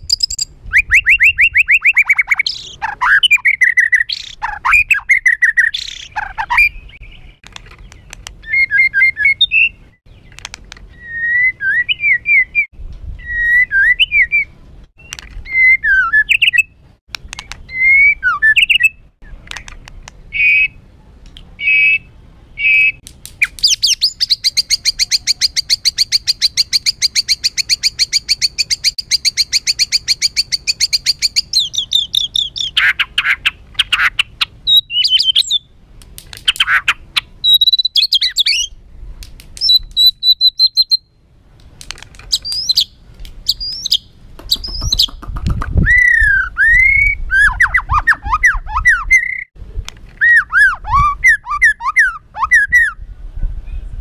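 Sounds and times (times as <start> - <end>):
bird singing agitated song: 0.0 - 20.9, 21.6 - 38.8, 39.6 - 41.3, 42.2 - 49.6, 50.2 - 53.0.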